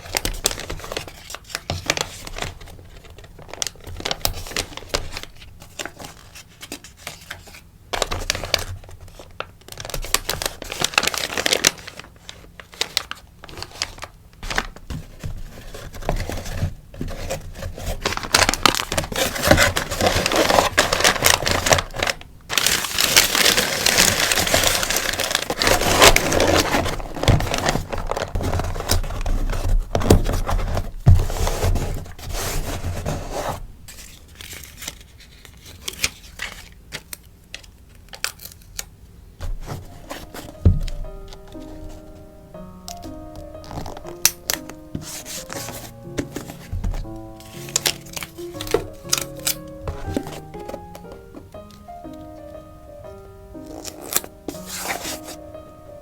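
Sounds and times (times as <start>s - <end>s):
packaging rustling and crumpling: 0.0s - 52.6s, 53.6s - 56.0s.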